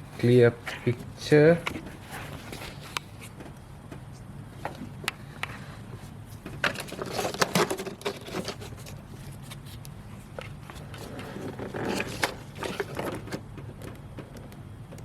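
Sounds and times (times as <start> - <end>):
low steady hum: 0.0 - 15.0
handling clicks and rustles: 0.1 - 15.0.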